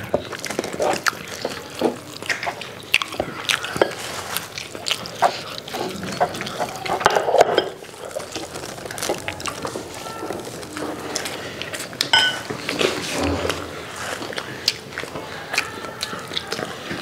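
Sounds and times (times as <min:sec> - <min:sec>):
people chewing with wet smacking: 0:00.0 - 0:17.0.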